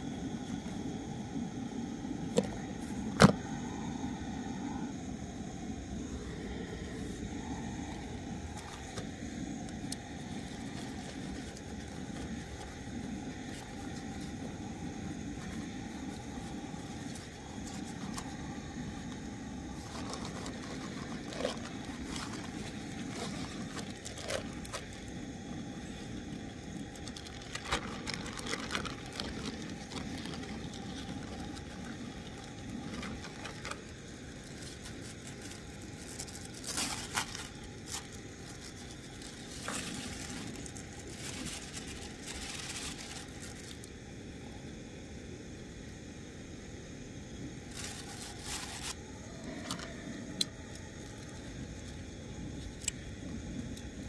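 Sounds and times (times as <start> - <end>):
low background noise: 0.0 - 54.0
crinkling and rustling handling: 6.2 - 44.0, 47.7 - 53.9.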